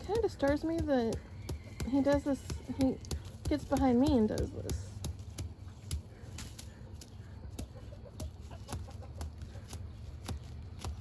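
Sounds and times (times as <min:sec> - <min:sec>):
turkey clicks and rustles: 0:00.0 - 0:11.0.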